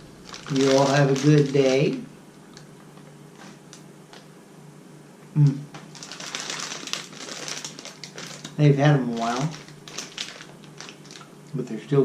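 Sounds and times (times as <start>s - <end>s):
candy wrapper crinkling: 0.0s - 4.3s, 5.8s - 11.4s.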